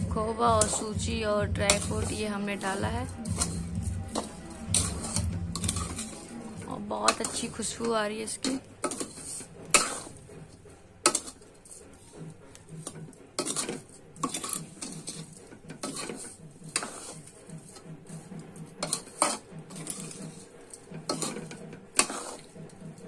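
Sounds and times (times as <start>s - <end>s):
spatula scraping a pan: 0.0s - 23.0s.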